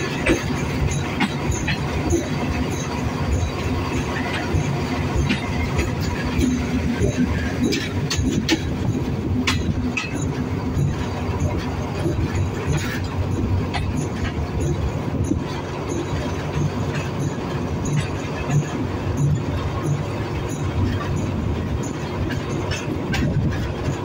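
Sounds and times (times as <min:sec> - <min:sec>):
wheel clicks at rail joints: 0:00.0 - 0:24.0.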